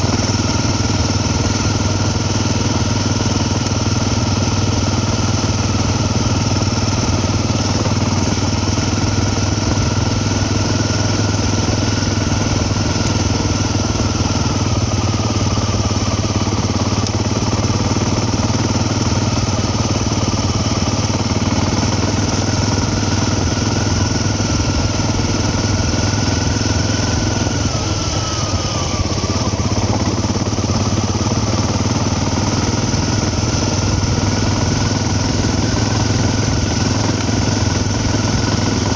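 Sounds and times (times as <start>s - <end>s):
faint engine whine: 0.0s - 38.9s
vehicle engine and road noise: 0.0s - 38.9s.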